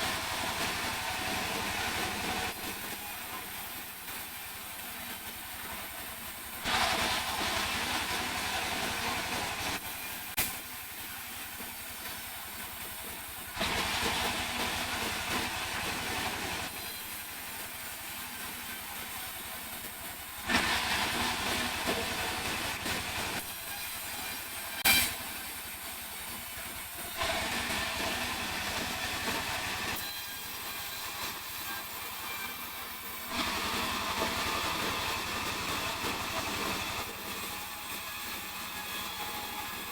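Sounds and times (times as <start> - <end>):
saw blade cutting wood: 0.0 - 10.8, 11.5 - 39.9.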